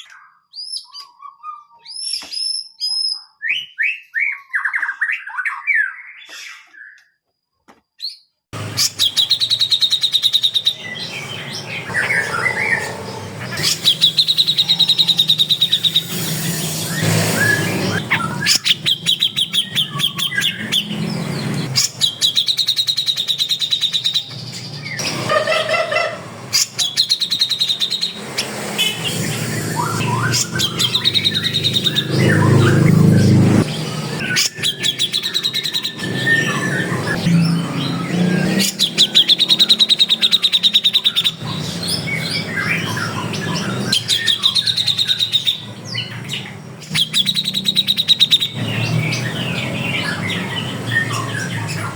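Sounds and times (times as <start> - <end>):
songbirds trilling and chirping: 8.0 - 51.9.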